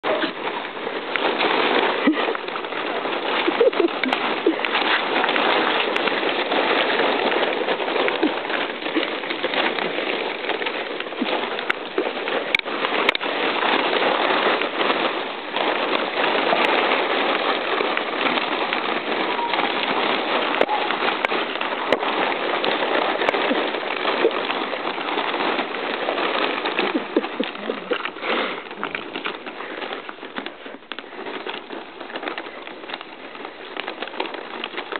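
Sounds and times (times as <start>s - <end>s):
plastic wrappers crinkling: 0.0s - 34.9s.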